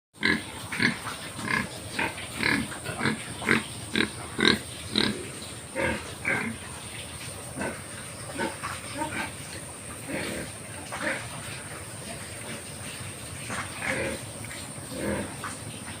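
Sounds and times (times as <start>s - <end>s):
pigs calling: 0.2s - 16.0s.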